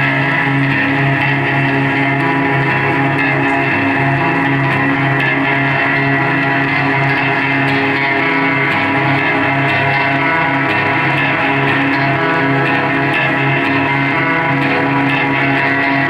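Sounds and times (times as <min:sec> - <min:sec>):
live guitar band music: 0:00.0 - 0:16.0.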